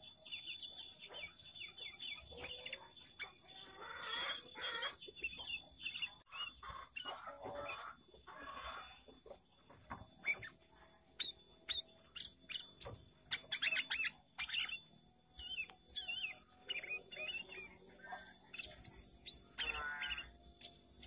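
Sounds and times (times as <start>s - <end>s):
bird singing chirps and whistles: 0.0s - 7.2s, 10.2s - 21.0s.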